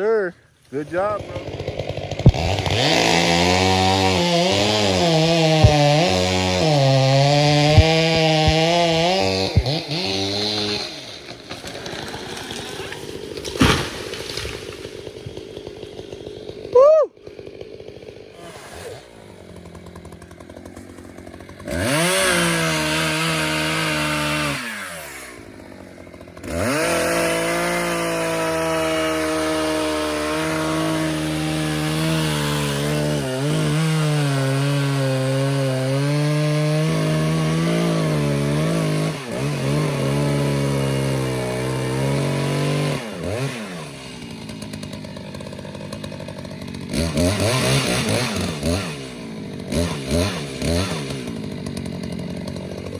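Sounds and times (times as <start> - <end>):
chainsaw revving and cutting wood: 0.0 - 52.9.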